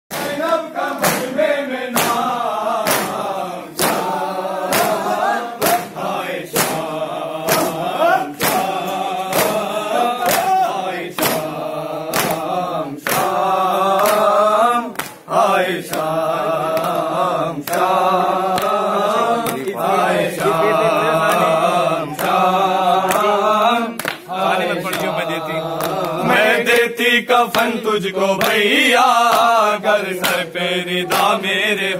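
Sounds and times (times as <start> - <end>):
hand slaps on chests: 0.1 - 27.8, 28.4 - 31.5
men chanting a lament: 0.1 - 31.9.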